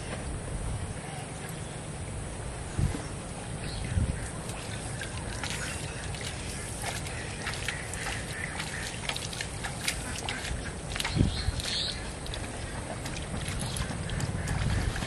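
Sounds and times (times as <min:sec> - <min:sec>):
water splashing and sloshing: 0:02.9 - 0:15.0.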